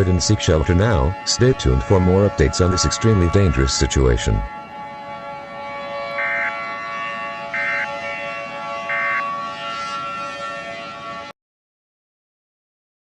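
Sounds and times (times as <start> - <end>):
many-toned alarm drone: 0.0 - 11.4.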